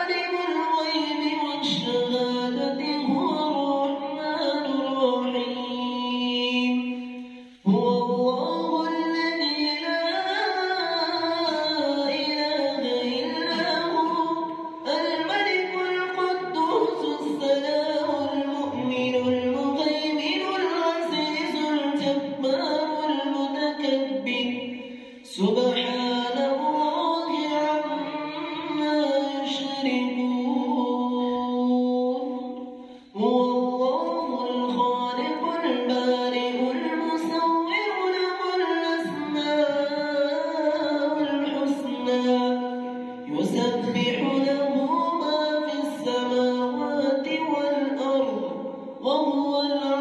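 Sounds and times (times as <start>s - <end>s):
man chanting through loudspeaker: 0.0s - 50.0s.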